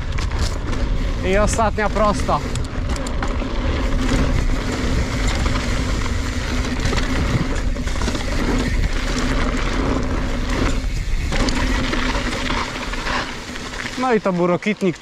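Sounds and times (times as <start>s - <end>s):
bike clicks and rattles: 0.0s - 15.0s
bike tyres rumbling on dirt: 0.0s - 15.0s.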